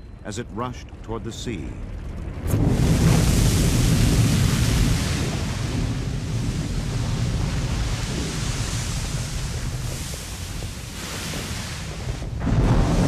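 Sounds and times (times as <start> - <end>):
lava steam plume rumbling and hissing: 1.9 - 13.0.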